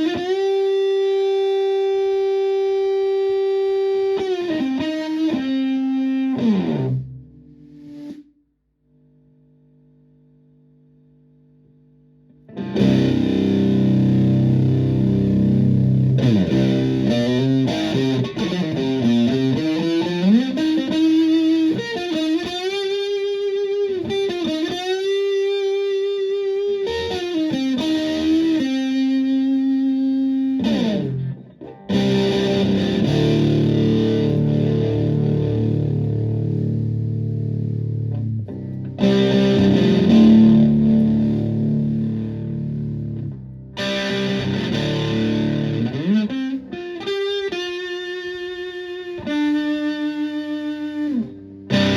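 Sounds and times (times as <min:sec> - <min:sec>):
fuzzed electric guitar: 0:00.0 - 0:08.3, 0:11.7 - 0:51.9.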